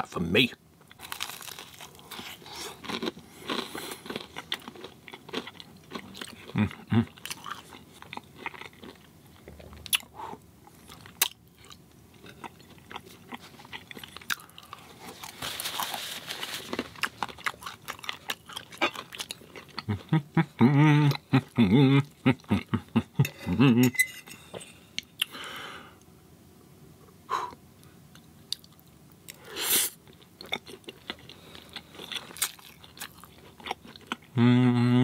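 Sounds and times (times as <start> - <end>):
person chewing crunchy food: 0.9 - 23.4, 28.2 - 34.4.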